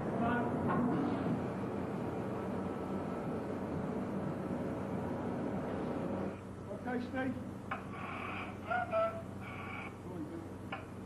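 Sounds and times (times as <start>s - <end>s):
low machinery rumble with hiss: 0.0s - 11.0s.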